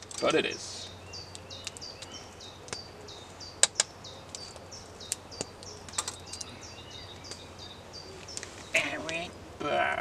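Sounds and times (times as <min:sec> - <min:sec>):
bird chirping: 0:00.0 - 0:09.6.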